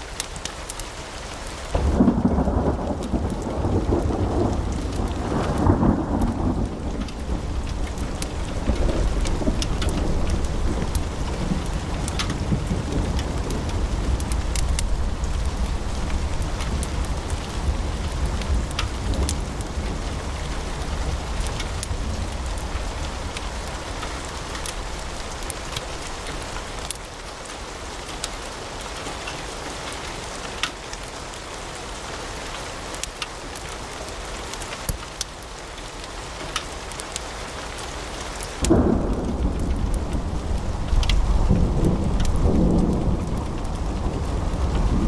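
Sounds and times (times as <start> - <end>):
wood fire crackling and popping: 0.0 - 30.0, 32.8 - 45.0.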